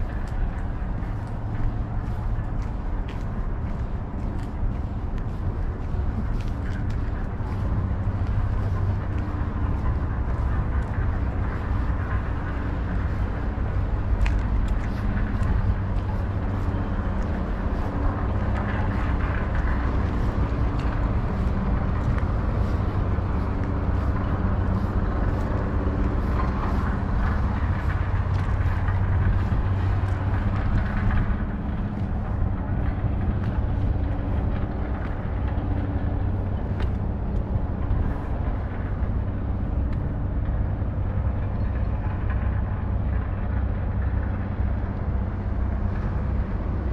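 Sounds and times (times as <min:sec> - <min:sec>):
continuous low rumble: 0:00.0 - 0:46.9
engine drone: 0:00.0 - 0:46.9.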